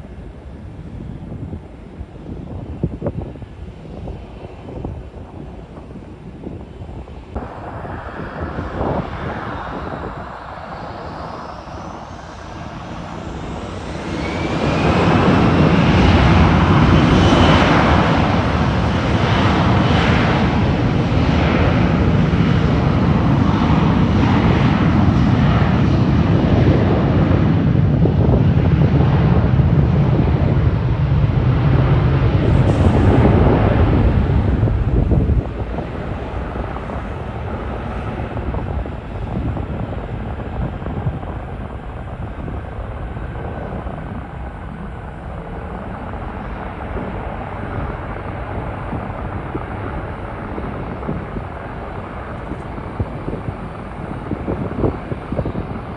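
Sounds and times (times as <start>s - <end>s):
jet airliner engines passing: 0.0s - 55.9s.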